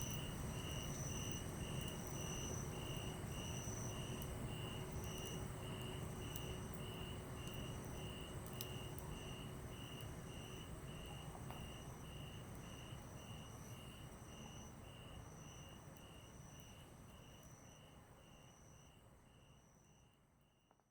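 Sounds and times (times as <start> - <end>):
campfire crackles: 0.0 - 17.4
crickets chirping: 0.0 - 20.1.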